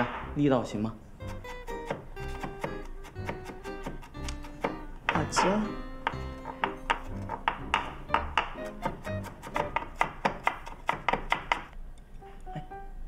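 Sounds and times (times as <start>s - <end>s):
background music: 0.0s - 10.1s, 12.2s - 13.0s
knife chopping on wooden board: 1.2s - 11.7s.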